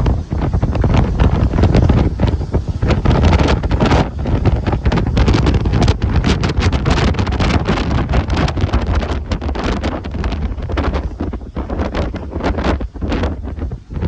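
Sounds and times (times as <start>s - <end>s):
rough sea surf: 0.0s - 14.0s
wind buffeting microphone: 0.0s - 14.0s.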